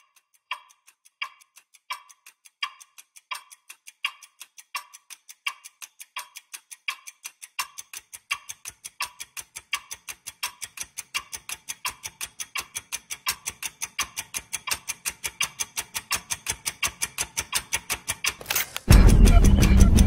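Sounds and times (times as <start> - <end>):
clock ticking: 0.0 - 20.0.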